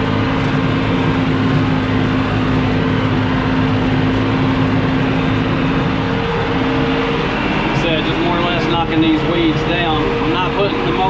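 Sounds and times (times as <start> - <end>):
rotary mower cutting weeds: 0.0 - 11.0
tractor engine running: 0.0 - 11.0.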